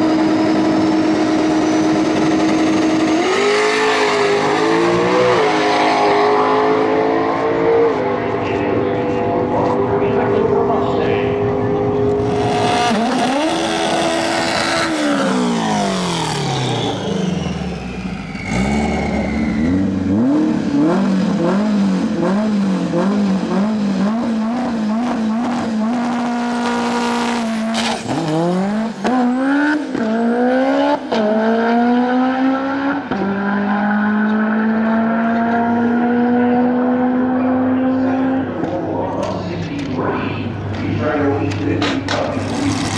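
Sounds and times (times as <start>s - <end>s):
engine revving: 0.0s - 8.0s, 10.0s - 38.5s, 42.1s - 42.9s
car accelerating hard: 0.0s - 38.8s, 42.1s - 42.9s
race car engines roaring: 0.0s - 42.9s.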